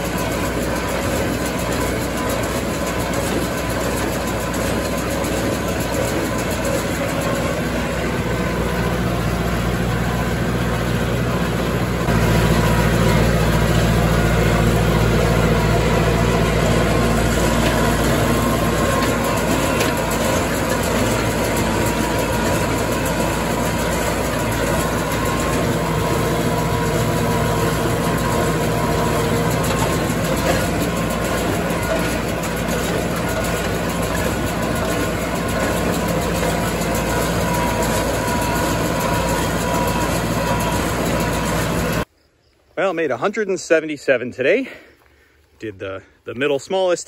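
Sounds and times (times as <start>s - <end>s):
tractor engine running: 0.0s - 42.1s.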